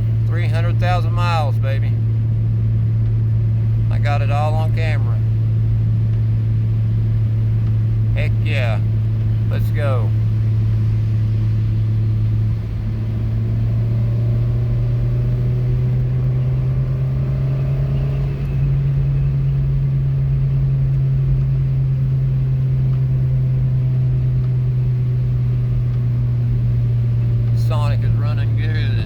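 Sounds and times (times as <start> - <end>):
car engine drone: 0.0 - 29.0
road noise inside car: 0.0 - 29.0.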